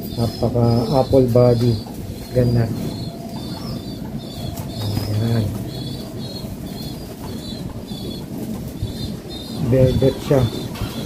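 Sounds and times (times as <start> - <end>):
birds chirping: 0.0 - 11.0
pigeon cooing: 0.0 - 11.0.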